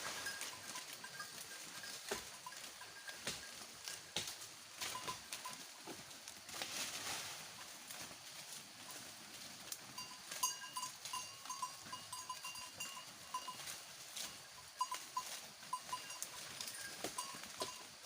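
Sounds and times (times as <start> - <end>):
goat bell clinking: 0.0 - 6.4, 8.8 - 18.0.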